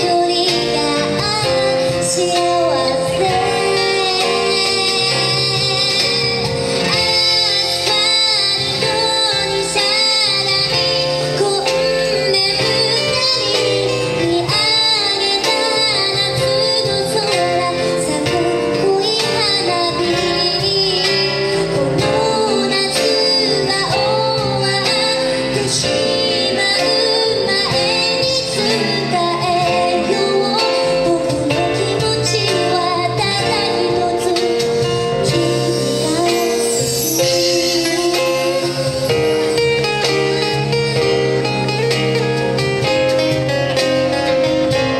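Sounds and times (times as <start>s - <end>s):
woman singing a slow ballad: 0.0s - 44.8s
band playing: 0.0s - 44.9s.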